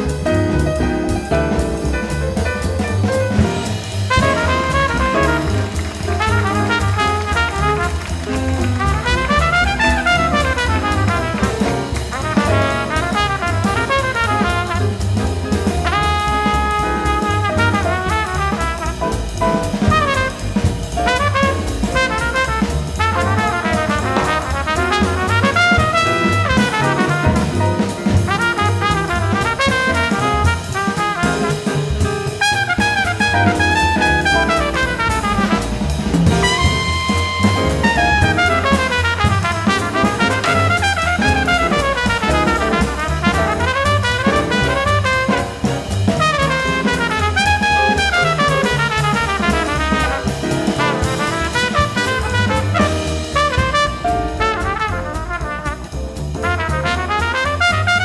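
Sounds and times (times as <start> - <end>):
double bass: 0.0 - 58.0
drum kit: 0.0 - 58.0
trumpet: 3.3 - 58.0.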